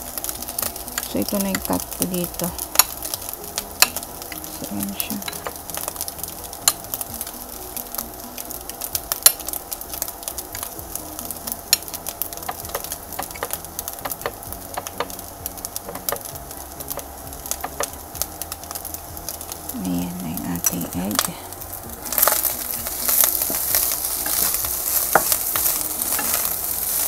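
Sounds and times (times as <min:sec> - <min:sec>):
crackling pops: 0:00.0 - 0:27.0
fried rice sizzling in a pan: 0:00.0 - 0:27.0.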